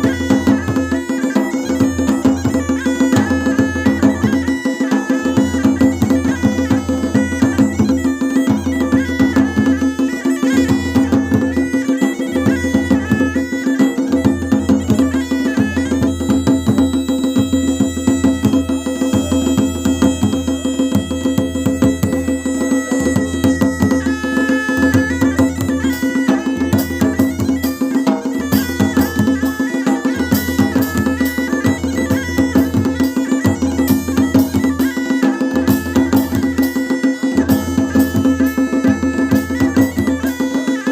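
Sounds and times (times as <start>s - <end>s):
bagpipe melody over drone: 0.0s - 40.9s
drums beating: 0.0s - 40.9s.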